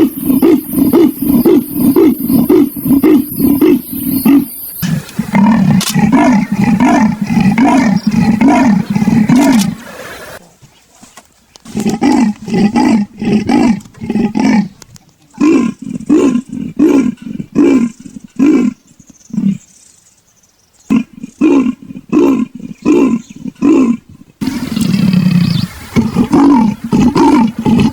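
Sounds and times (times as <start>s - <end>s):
leopard rasping grunts: 0.0s - 10.4s, 11.7s - 19.7s, 20.9s - 27.9s.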